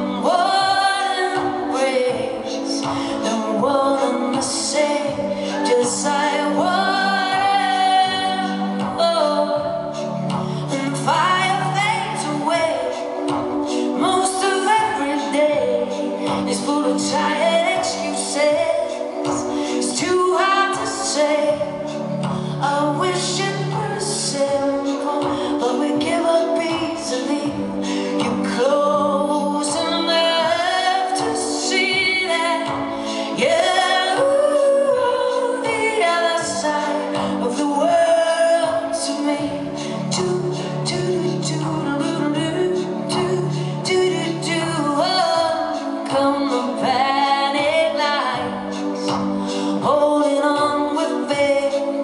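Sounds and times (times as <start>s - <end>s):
guitar: 0.0s - 52.0s
woman singing with vibrato: 0.0s - 52.0s.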